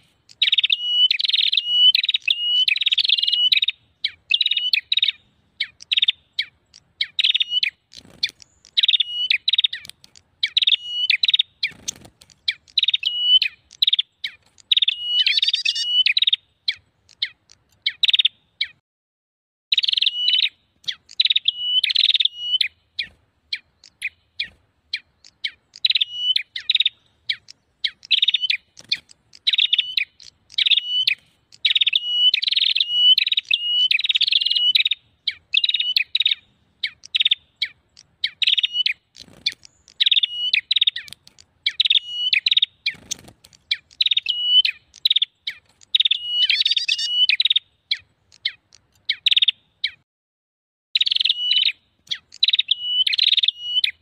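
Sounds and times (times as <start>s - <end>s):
bird chattering calls: 0.0s - 18.8s, 19.7s - 50.0s, 51.0s - 54.0s.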